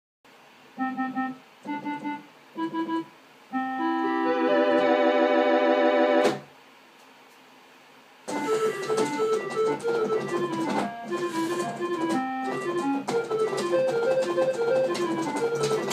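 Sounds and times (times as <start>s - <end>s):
electronic keyboard chords: 0.8s - 6.4s, 8.3s - 15.9s.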